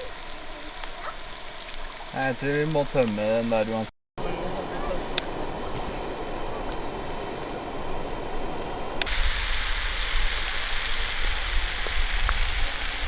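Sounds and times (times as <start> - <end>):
wind hissing over microphone: 0.0 - 13.0.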